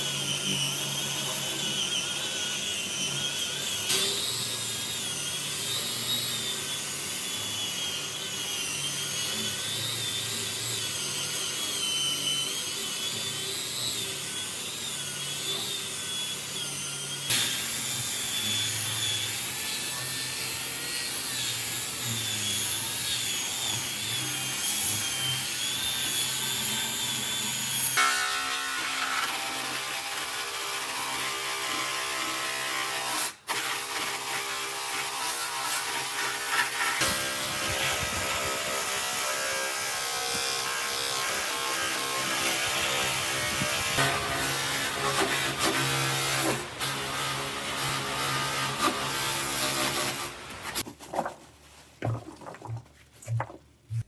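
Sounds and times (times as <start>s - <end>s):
power tool whining on wood: 0.0s - 50.8s.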